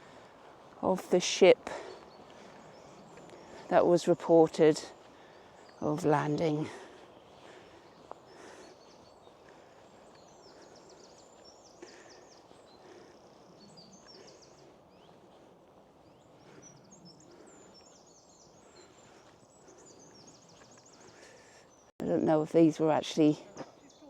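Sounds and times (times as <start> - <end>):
small birds singing: 0.0 - 24.0.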